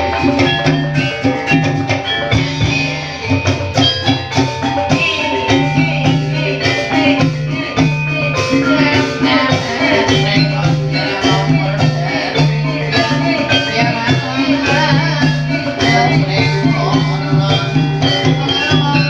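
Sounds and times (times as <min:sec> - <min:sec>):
drum strokes: 0:00.0 - 0:19.0
gamelan music: 0:00.0 - 0:19.0.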